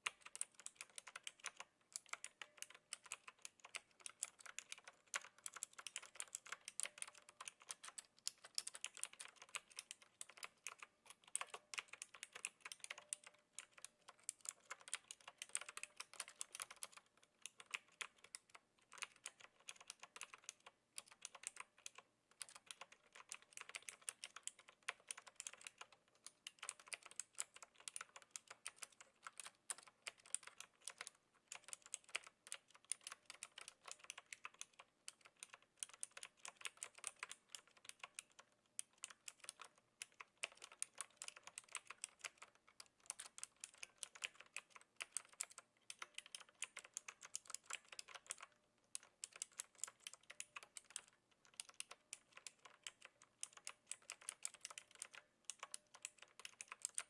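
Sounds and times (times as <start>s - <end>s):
clicky keyboard typing: 0.0s - 57.0s.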